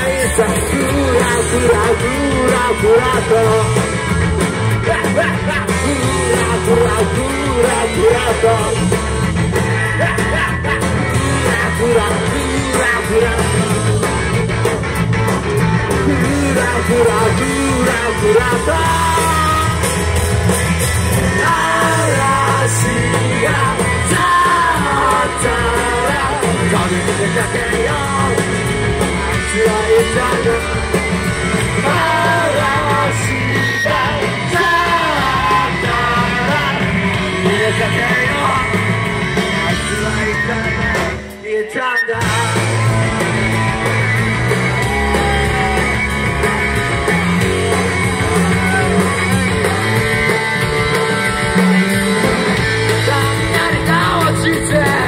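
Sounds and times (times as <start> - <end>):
man singing: 0.0 - 14.2, 15.9 - 20.1, 21.1 - 43.9, 44.7 - 50.4, 51.3 - 55.0
live rock band playing: 0.0 - 55.0.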